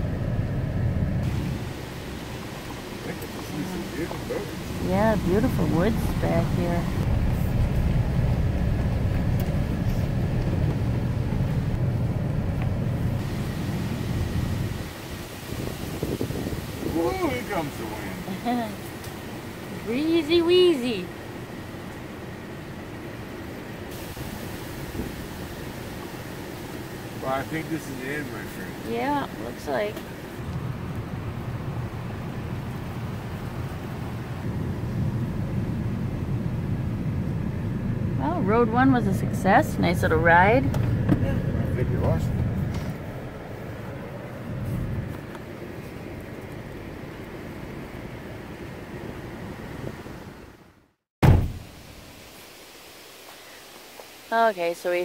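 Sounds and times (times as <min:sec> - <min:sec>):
truck driving on rough road: 0:00.0 - 0:52.0.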